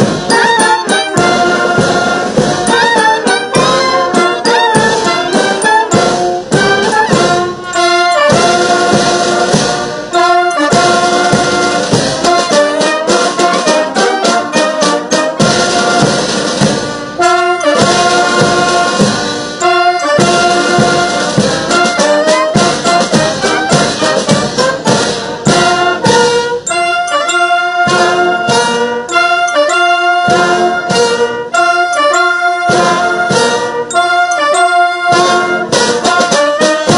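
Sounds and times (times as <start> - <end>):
military band playing: 0.0 - 36.9
snare drum: 0.0 - 36.9.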